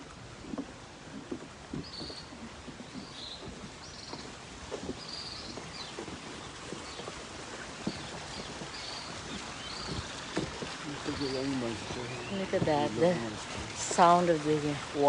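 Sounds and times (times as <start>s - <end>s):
footsteps on dirt trail: 0.0s - 14.6s.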